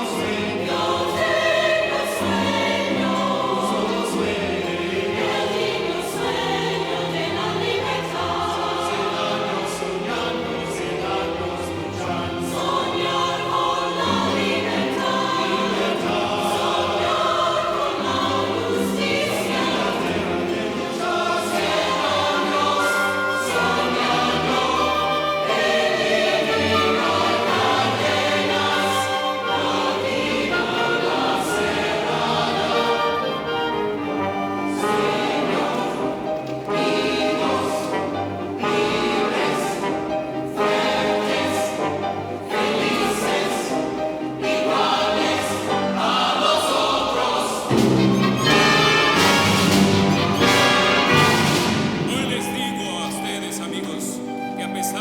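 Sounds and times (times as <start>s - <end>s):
choir singing: 0.0s - 55.0s
orchestra playing: 0.0s - 55.0s.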